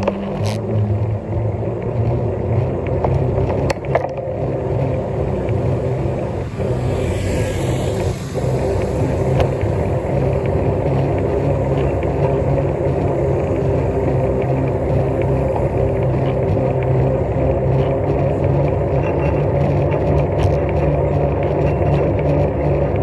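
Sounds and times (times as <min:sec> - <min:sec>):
wind and tyre road noise: 0:00.0 - 0:23.0.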